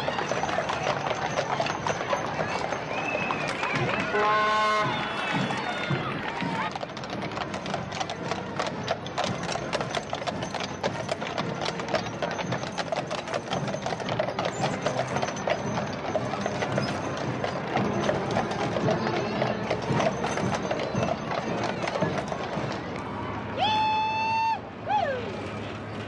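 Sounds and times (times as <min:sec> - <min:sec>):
hooves clip-clopping on road: 0:00.0 - 0:23.3
crowd murmur: 0:00.0 - 0:26.0.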